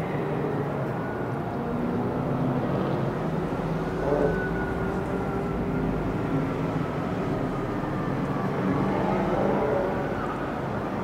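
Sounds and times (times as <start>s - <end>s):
distant vehicle engines humming: 0.0s - 11.0s.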